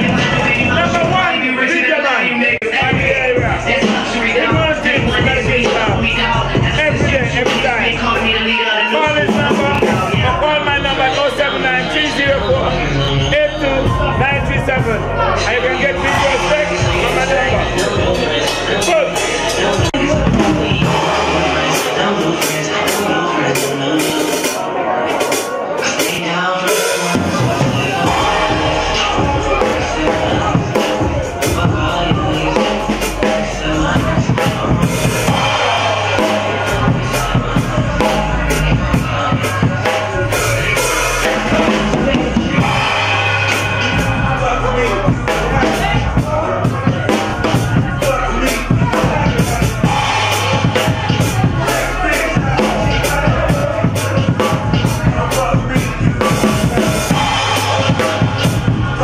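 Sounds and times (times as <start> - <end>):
drum kit beat: 0.0 - 1.4, 2.6 - 59.0
pitched music: 0.0 - 59.0.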